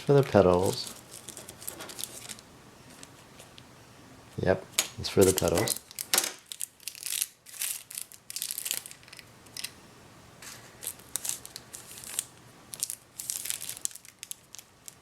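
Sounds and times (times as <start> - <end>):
plastic packaging crinkling: 0.0 - 3.6, 5.1 - 9.8, 10.4 - 15.0.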